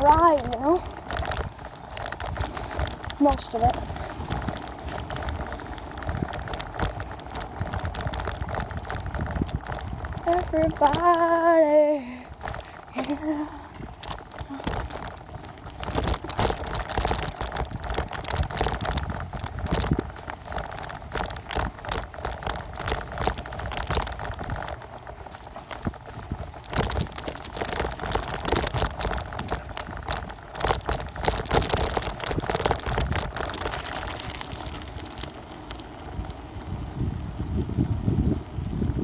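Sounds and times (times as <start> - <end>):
bicycle rattling over rough ground: 0.0 - 39.0.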